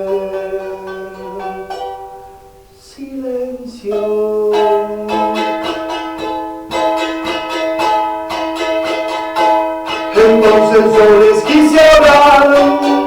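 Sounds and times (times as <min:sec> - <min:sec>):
charango strummed: 0:00.0 - 0:13.0.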